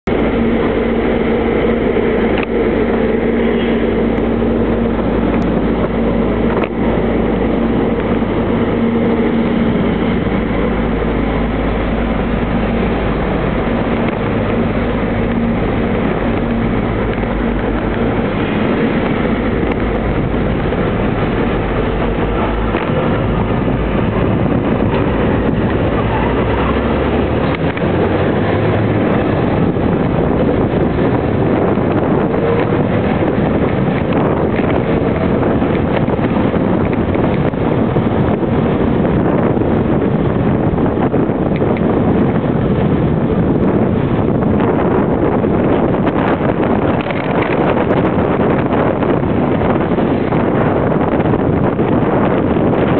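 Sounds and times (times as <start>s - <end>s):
bus engine running: 0.0s - 52.9s
wind rumble on microphone: 0.0s - 52.9s.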